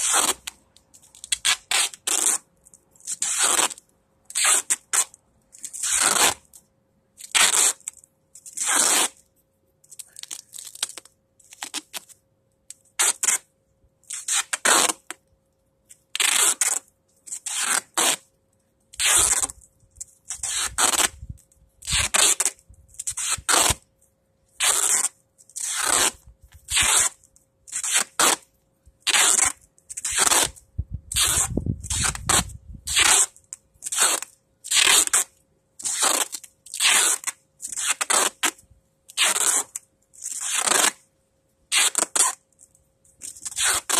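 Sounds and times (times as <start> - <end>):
duct tape ripping off roll: 0.0 - 6.6, 7.2 - 9.3, 9.9 - 15.2, 15.9 - 18.3, 18.9 - 23.9, 24.6 - 41.1, 41.7 - 43.9.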